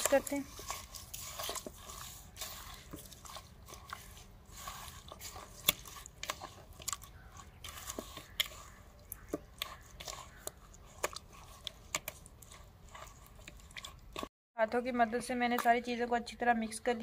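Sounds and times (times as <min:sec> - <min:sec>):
hand squelching raw chicken: 0:00.0 - 0:14.3.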